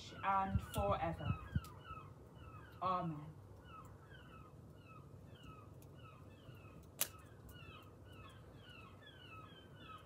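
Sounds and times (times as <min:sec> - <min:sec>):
wood fire crackling: 0:00.3 - 0:10.0.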